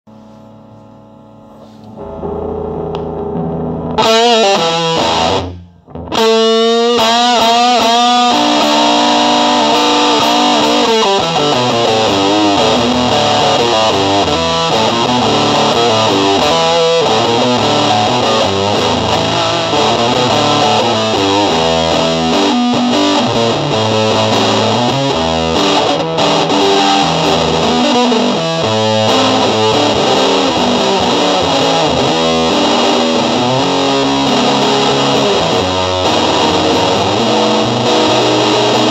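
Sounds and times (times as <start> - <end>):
distorted electric guitar: 0.1 - 38.9.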